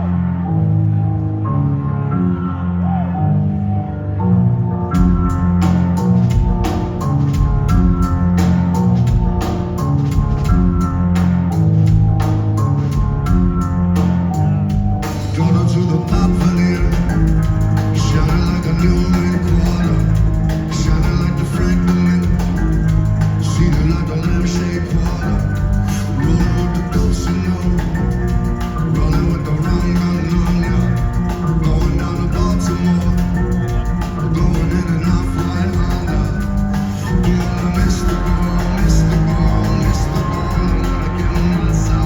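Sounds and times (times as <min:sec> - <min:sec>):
live band playing: 0:05.0 - 0:42.0
steady drum beat: 0:05.0 - 0:42.0.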